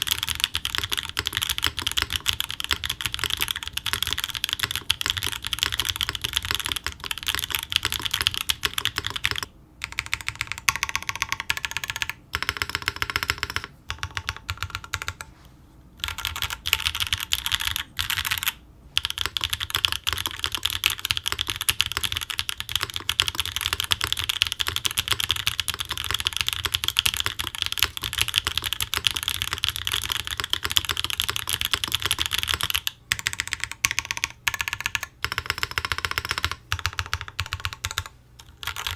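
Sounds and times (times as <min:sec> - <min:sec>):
mechanical keyboard typing: 0:00.0 - 0:15.3, 0:16.0 - 0:38.9.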